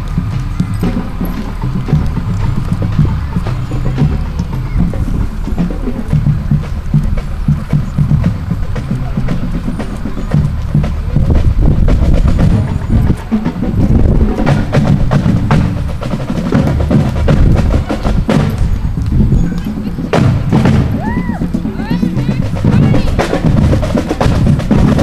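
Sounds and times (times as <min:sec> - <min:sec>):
snare and bass drums: 0:00.0 - 0:25.0.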